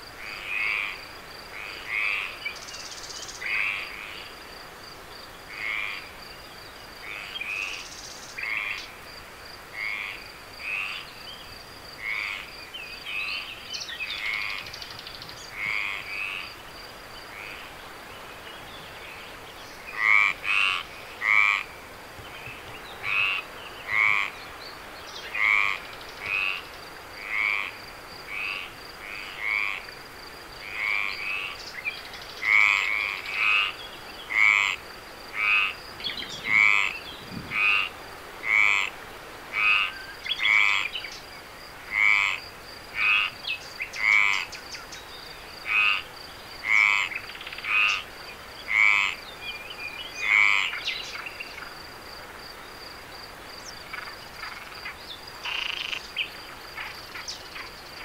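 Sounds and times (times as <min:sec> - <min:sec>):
frogs croaking: 0:00.0 - 0:58.0.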